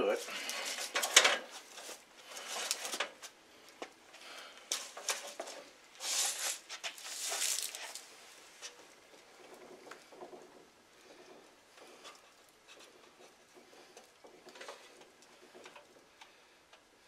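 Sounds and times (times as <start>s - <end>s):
rustling: 0.0s - 16.5s.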